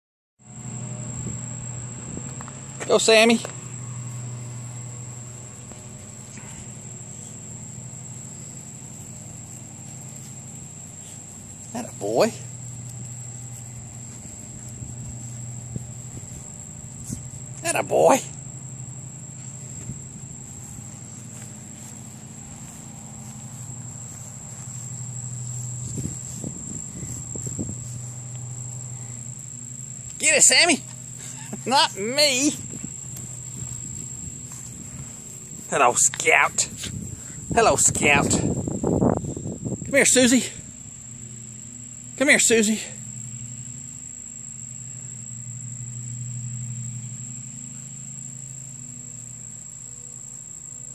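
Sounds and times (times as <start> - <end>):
high-pitched insect trilling: 0.4 - 50.9
low steady hum: 0.4 - 50.9.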